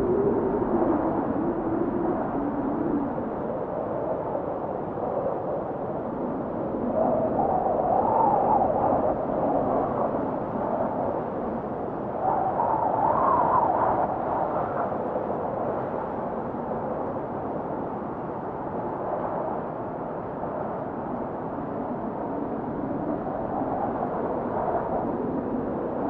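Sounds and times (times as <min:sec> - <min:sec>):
rushing wind: 0:00.0 - 0:26.0.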